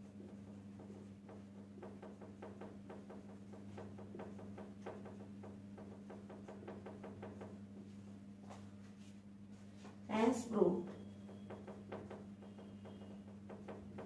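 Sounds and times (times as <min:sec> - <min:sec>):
marker writing on whiteboard: 0:00.0 - 0:09.2, 0:11.0 - 0:14.0
low steady hum: 0:00.0 - 0:14.0.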